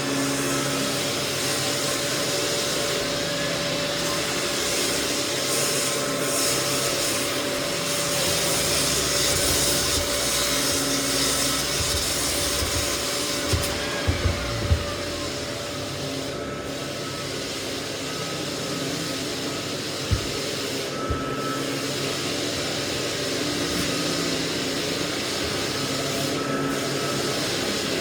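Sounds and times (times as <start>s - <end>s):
floor sander grinding wood: 0.0s - 28.0s
motor and fan hum: 0.0s - 28.0s.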